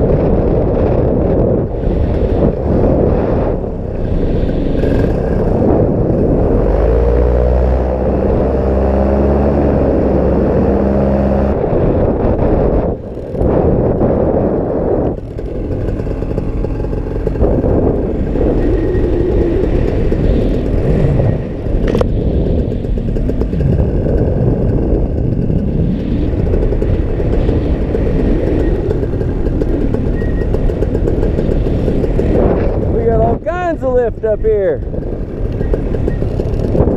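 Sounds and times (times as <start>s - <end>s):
paramotor engine running: 0.2s - 36.9s.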